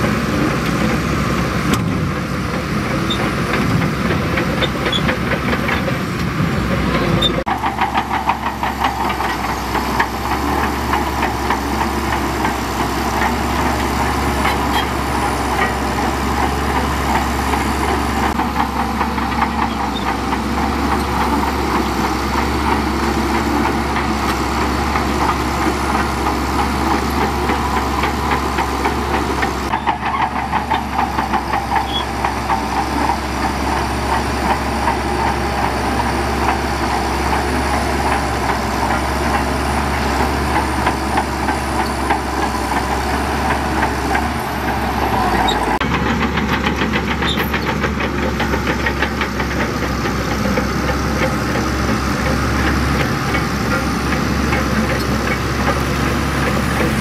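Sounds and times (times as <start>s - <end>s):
heavy diesel engine clattering: 0.0s - 57.0s.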